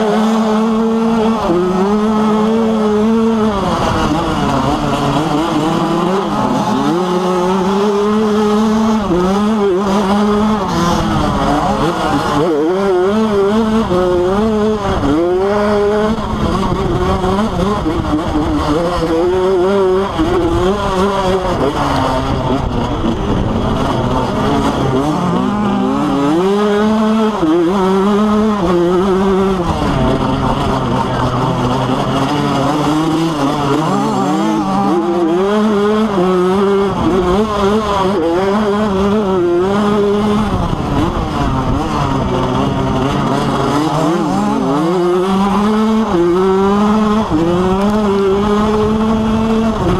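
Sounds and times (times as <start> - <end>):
dirt bike engines revving: 0.0 - 49.9
steady engine drone: 0.0 - 49.9.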